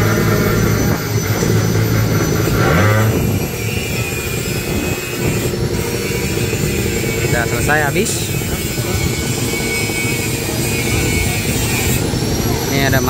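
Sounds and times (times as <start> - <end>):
racing motorcycle engine revving: 0.0 - 13.0.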